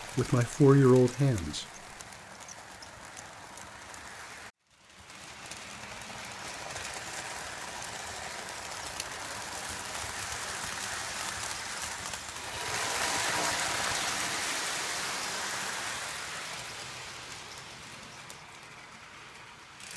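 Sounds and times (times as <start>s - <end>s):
toy train rattling on track: 0.0s - 19.9s.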